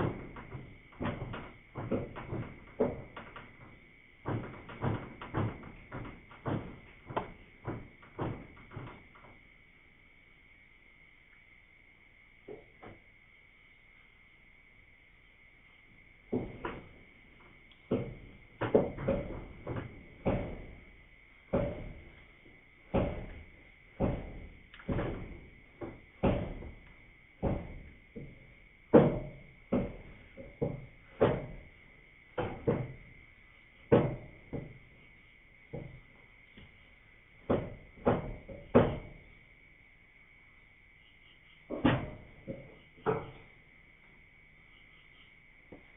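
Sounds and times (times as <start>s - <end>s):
frogs calling: 0.0s - 45.9s
high insect trill: 0.0s - 45.9s.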